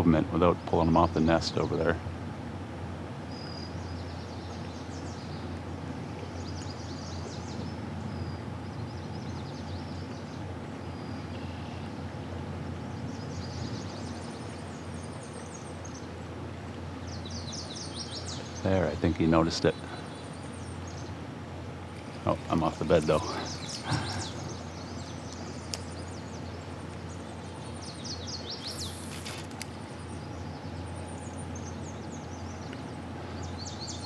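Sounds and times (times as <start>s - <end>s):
steady low hum: 0.0s - 34.0s
small birds chirping: 3.2s - 34.0s.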